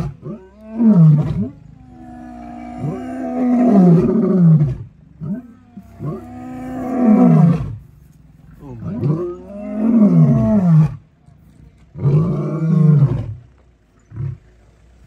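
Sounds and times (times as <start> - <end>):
lions growling and snarling: 0.0 - 11.1, 11.8 - 15.0.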